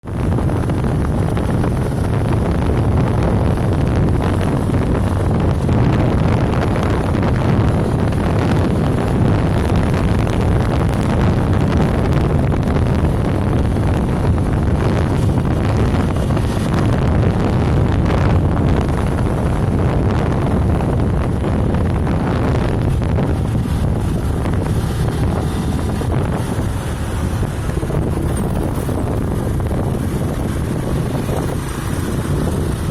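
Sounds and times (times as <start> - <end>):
road and engine noise: 0.0 - 32.9
wind buffeting microphone: 0.0 - 32.9.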